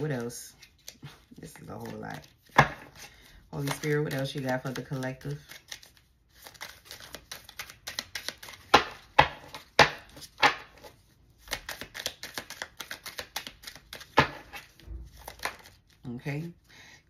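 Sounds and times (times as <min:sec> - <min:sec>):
cards being shuffled: 0:00.0 - 0:16.5
cards slapping: 0:00.2 - 0:16.0.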